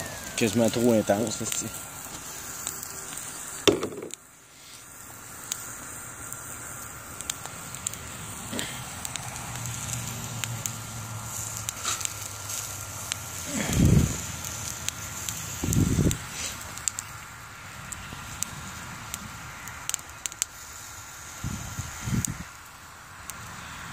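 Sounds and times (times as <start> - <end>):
sharp pops of fire: 0.0 - 23.9
wood fire crackling: 0.0 - 23.9.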